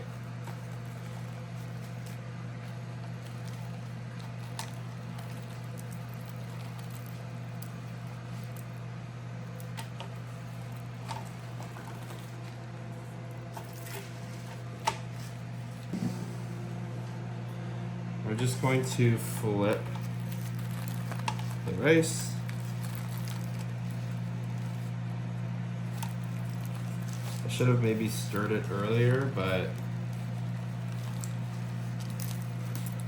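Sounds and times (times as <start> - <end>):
fan humming: 0.0 - 33.0.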